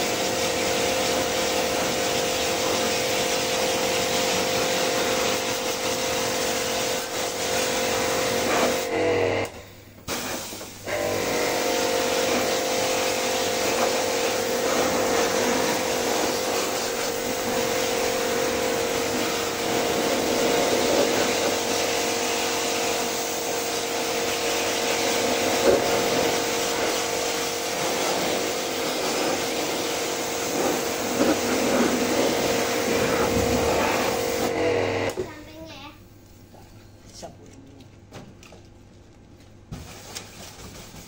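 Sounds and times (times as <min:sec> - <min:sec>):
water jet spraying: 0:00.0 - 0:08.9, 0:10.1 - 0:35.2
pressure washer motor humming: 0:00.0 - 0:35.5.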